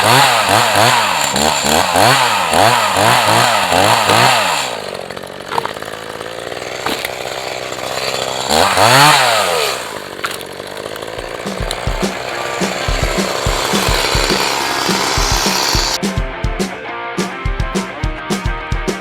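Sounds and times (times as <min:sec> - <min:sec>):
chainsaw engine idling and revving: 0:00.0 - 0:16.0.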